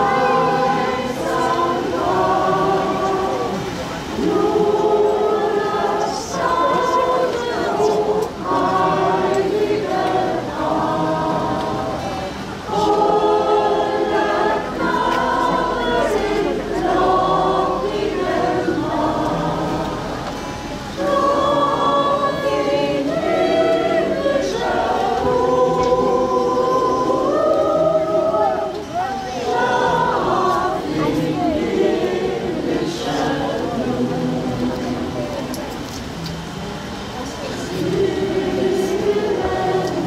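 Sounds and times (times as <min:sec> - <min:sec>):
group singing a carol: 0:00.0 - 0:40.0.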